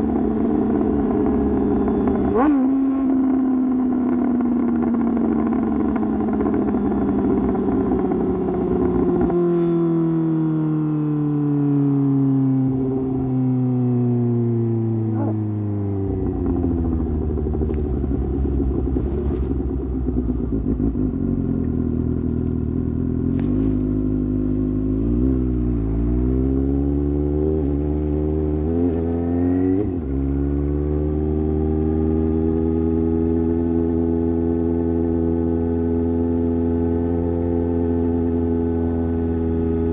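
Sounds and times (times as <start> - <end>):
motorcycle engine slowing and revving: 0.0 - 39.9.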